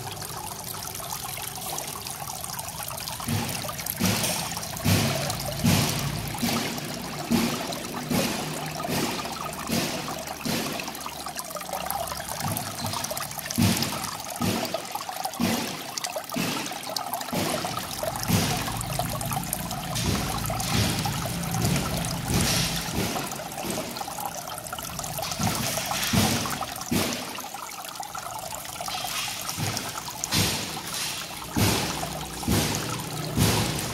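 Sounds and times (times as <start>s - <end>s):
water trickling and splashing: 0.0s - 33.9s.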